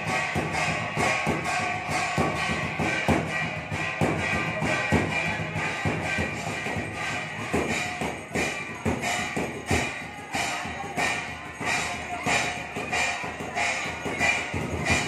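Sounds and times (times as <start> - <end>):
drum beating steadily: 0.0 - 15.0.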